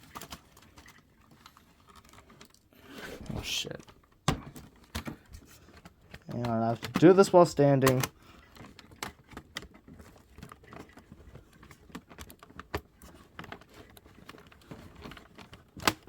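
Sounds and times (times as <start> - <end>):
plastic laptop parts clicking: 0.0 - 2.7, 3.7 - 16.0.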